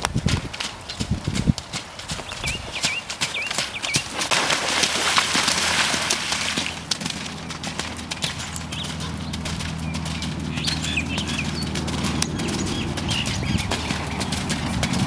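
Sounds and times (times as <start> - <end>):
hoofbeats on wet sand: 0.0 - 15.0
horse splashing through water: 0.0 - 15.0.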